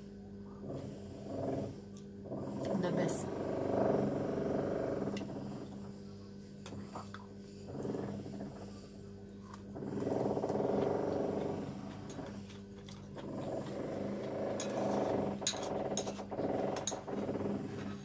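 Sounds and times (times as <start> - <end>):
closed-mouth humming while chewing: 0.0 - 18.0
steady low hum: 0.0 - 18.0.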